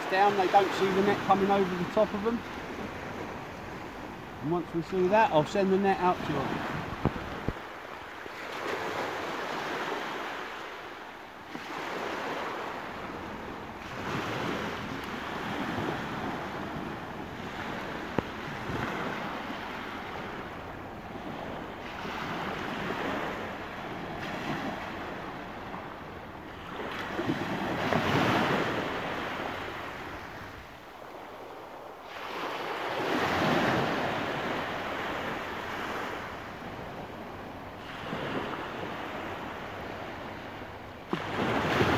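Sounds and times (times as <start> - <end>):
waves breaking on sandy beach: 0.0 - 41.9.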